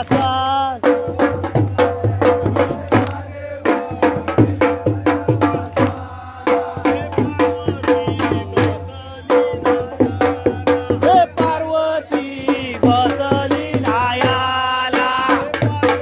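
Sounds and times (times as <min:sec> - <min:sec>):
driving drum beat: 0:00.0 - 0:16.0.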